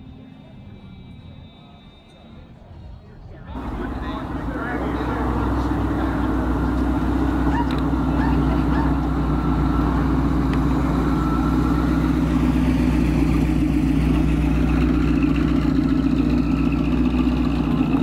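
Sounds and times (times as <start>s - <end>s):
car engine driving slowly past: 3.6s - 18.0s.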